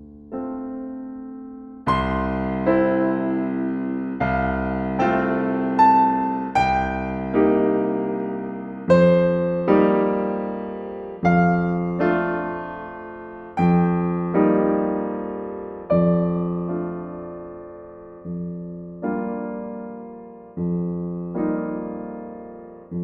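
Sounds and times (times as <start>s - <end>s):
gentle solo piano chords: 0.0s - 23.0s.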